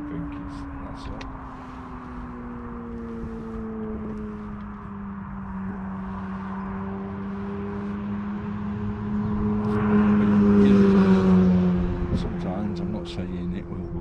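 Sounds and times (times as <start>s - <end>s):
engine humming as it passes: 0.0s - 14.0s.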